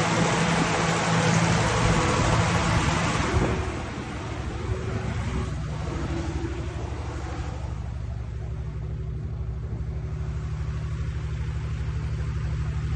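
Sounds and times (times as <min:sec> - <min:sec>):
diesel generator running: 0:00.0 - 0:12.9.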